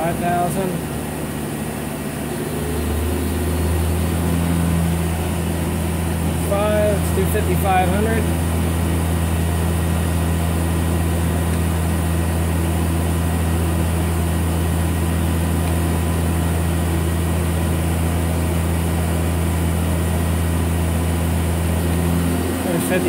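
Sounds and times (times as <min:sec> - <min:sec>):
machine spindle hum: 0:00.0 - 0:23.0.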